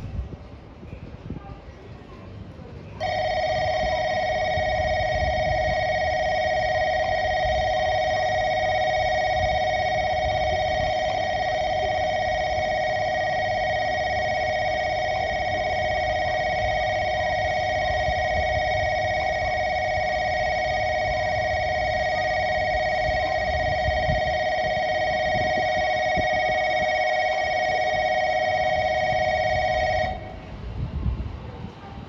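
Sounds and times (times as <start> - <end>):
platform bell ringing: 3.0 - 30.4.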